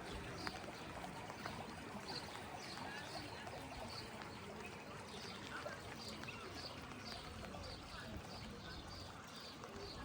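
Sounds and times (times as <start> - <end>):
rainwater trickling and dripping: 0.0 - 10.0
small water splashes: 0.0 - 10.0.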